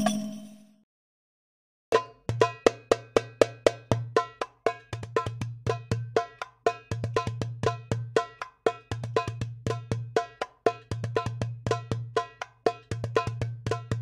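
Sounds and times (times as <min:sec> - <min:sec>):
hand drum struck in fast rhythm: 0:01.9 - 0:14.0.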